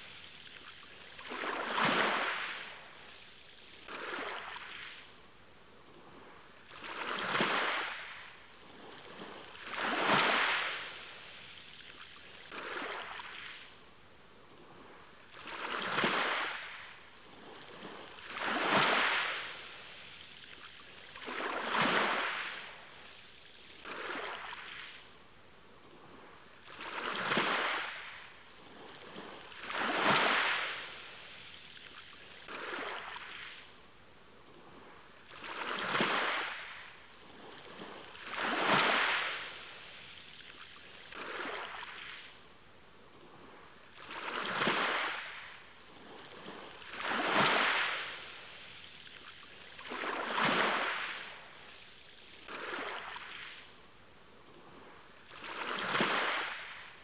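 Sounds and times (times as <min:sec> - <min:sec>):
waves breaking on shore: 0:00.0 - 0:05.2, 0:05.8 - 0:57.0.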